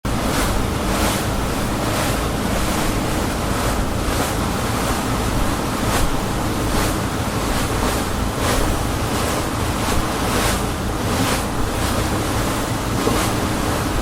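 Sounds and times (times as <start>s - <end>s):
boat engine rumble: 0.0s - 14.0s
water wash and spray: 0.1s - 14.0s.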